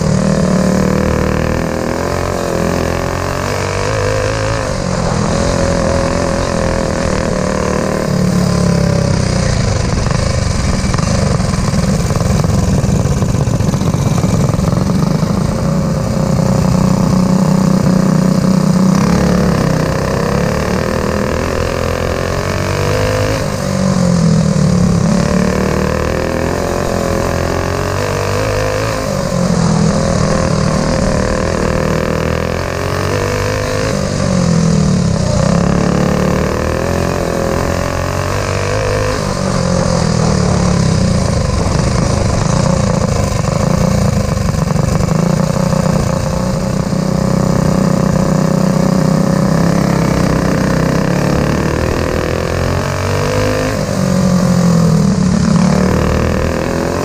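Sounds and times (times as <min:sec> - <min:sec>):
racing kart engine: 0:00.0 - 0:57.0.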